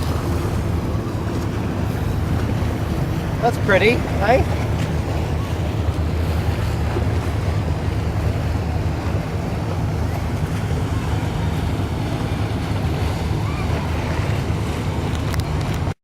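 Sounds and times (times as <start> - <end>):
wind buffeting microphone: 0.0 - 15.9
water rushing along hull: 0.0 - 16.0.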